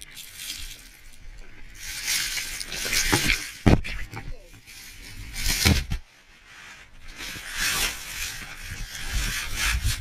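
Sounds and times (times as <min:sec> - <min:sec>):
snow scraping against camera: 0:01.6 - 0:10.0.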